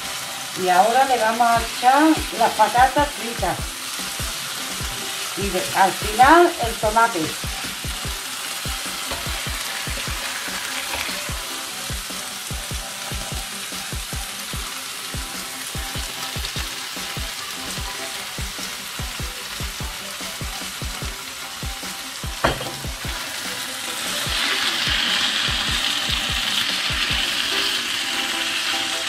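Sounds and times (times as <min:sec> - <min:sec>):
vegetables sizzling in a frying pan: 0:00.0 - 0:29.0.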